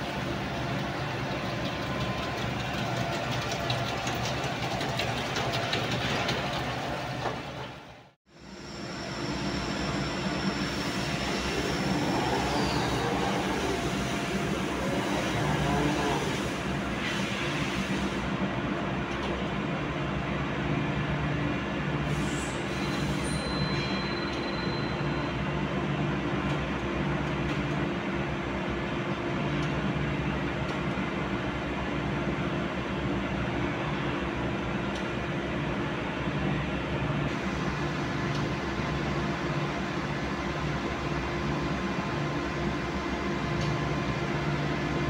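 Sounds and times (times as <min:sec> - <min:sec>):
workshop machinery noise: 0:00.0 - 0:45.0.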